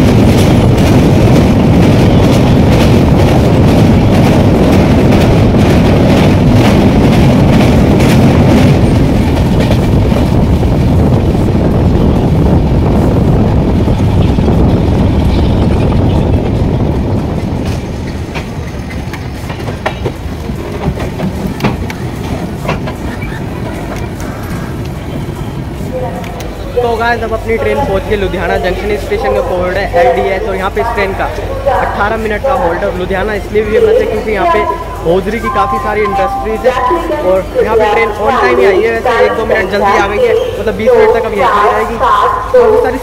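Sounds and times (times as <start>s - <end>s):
train wheels clattering on rails: 0.0s - 43.0s.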